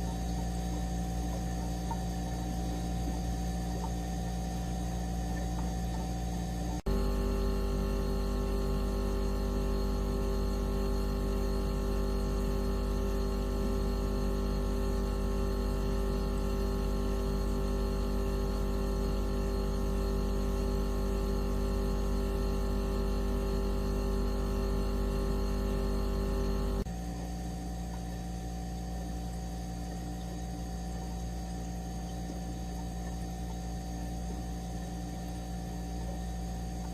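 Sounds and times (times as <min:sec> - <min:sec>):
electronic hum of synthesized tones: 0:00.0 - 0:36.9.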